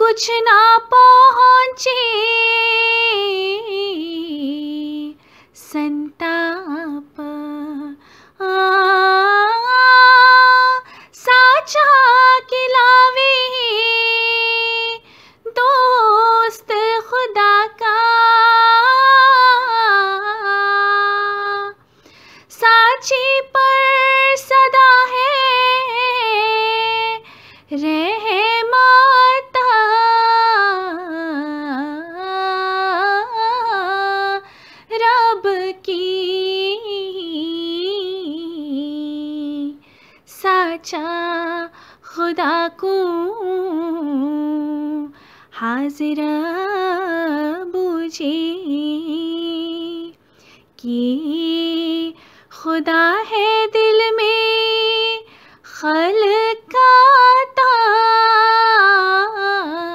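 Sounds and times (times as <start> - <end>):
woman singing slow ornamented melody: 0.0 - 50.2.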